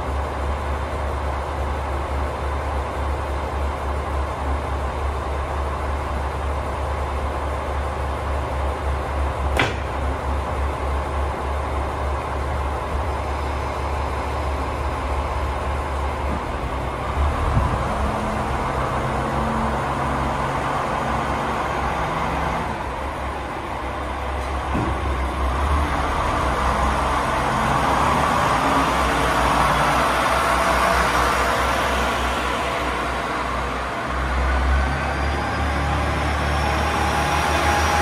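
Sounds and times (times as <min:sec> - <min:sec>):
diesel railcar engine idling: 0:00.0 - 0:38.0.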